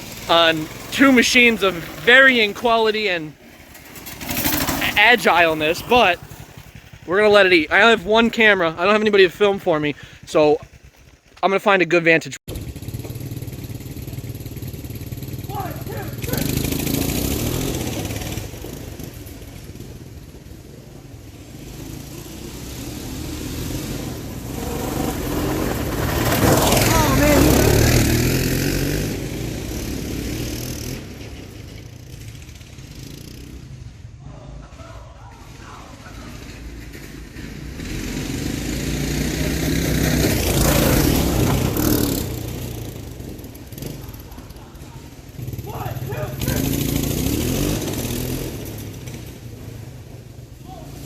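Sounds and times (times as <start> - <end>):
small engine revving: 0.0 - 11.2, 12.5 - 34.6, 35.4 - 51.0.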